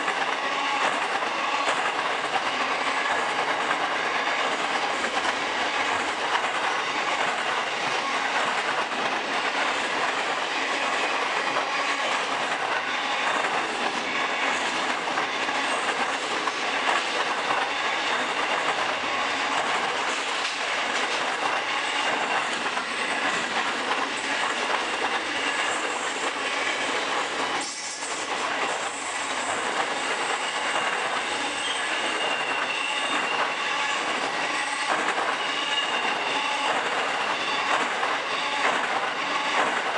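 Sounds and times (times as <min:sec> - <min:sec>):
steel wheels rolling on rail: 0:00.0 - 0:39.9.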